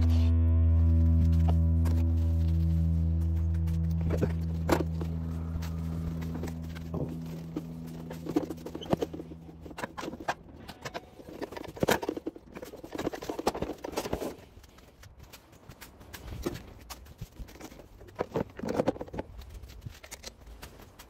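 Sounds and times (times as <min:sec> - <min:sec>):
low steady hum: 0:00.0 - 0:21.0
hands handling parts and tools: 0:00.9 - 0:21.0.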